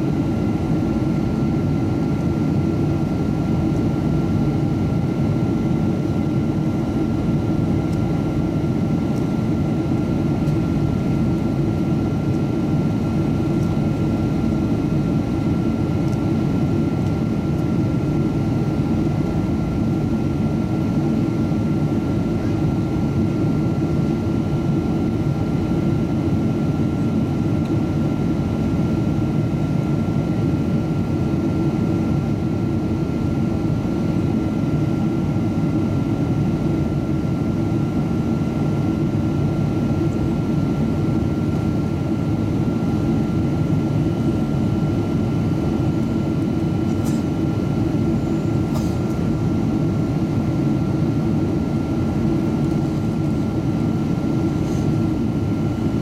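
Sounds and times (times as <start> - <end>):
jet engine and airflow roar: 0.0 - 56.0.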